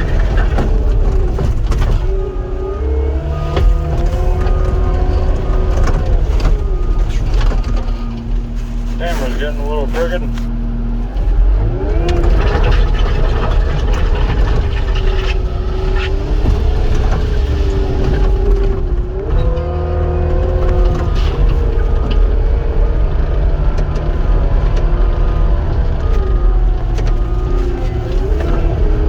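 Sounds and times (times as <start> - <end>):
diesel engine and hydraulics: 0.0 - 29.0.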